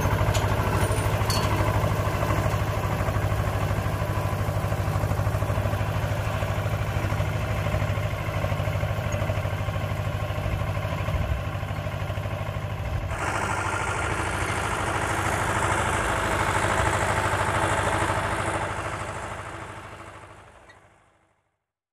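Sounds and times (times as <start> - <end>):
tractor diesel engine running: 0.0 - 21.4.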